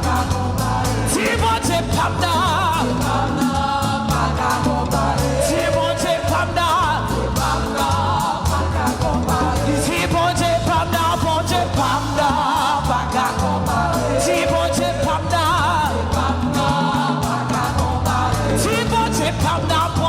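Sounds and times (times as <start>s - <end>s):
lead singer with vibrato: 0.0s - 20.0s
praise band with bass and drums: 0.0s - 20.0s.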